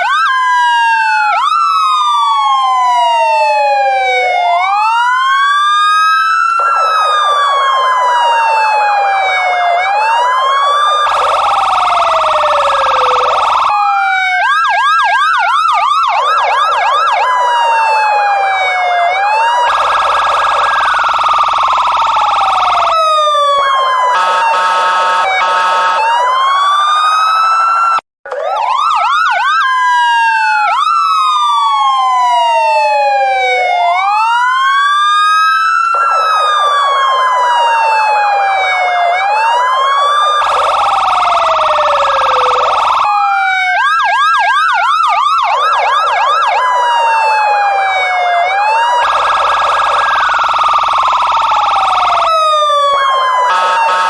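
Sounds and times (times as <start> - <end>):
electronic police siren: 0.0 - 54.0.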